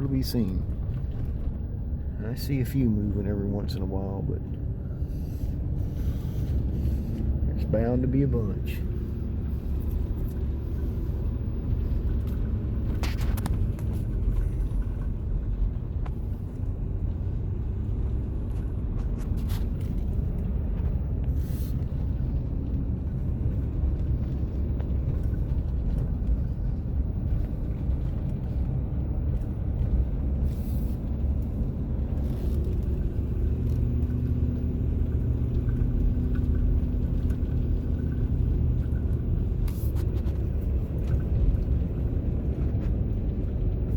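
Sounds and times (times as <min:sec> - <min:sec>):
vehicle engine and road rumble: 0:00.0 - 0:43.9.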